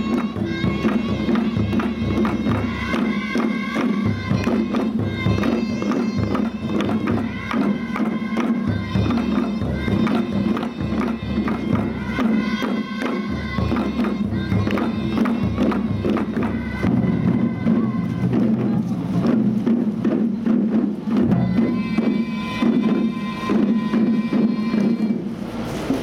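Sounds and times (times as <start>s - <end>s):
hand drums beating: 0.0s - 26.0s
large drum beating: 0.0s - 26.0s.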